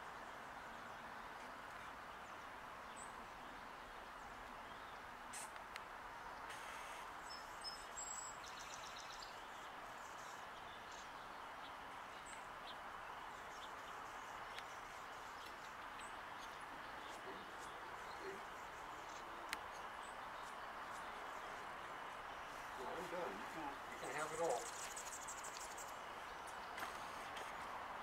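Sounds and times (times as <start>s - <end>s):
faint outdoor background noise: 0.0s - 28.0s.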